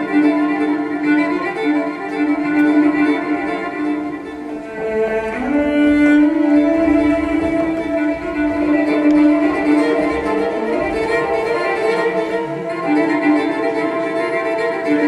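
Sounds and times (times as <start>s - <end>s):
violin playing long notes: 0.0s - 15.0s.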